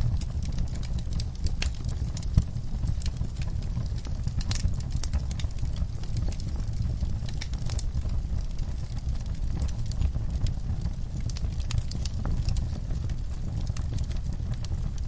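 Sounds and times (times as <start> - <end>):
fire crackling with pops: 0.0 - 15.0
low steady rumble: 0.0 - 15.0.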